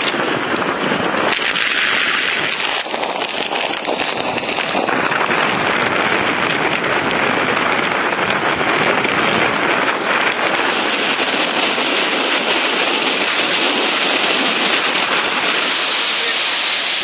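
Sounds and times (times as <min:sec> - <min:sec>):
surf breaking over a seawall: 0:00.0 - 0:17.0
wind roaring: 0:00.0 - 0:17.0.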